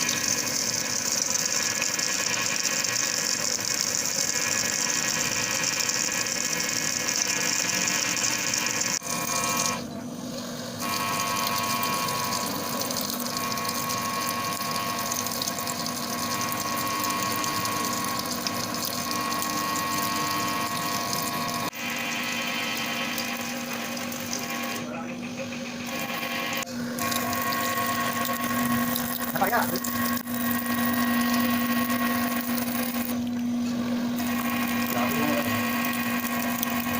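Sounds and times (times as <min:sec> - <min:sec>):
machine humming and whirring: 0:00.0 - 0:36.9.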